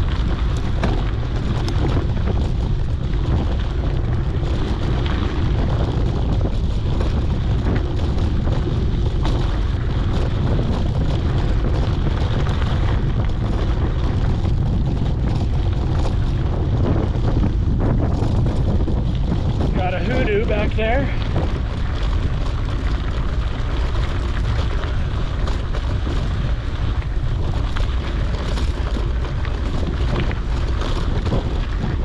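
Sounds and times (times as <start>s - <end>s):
tyres rolling on dirt road: 0.0s - 32.0s
wind buffeting microphone: 0.0s - 32.0s.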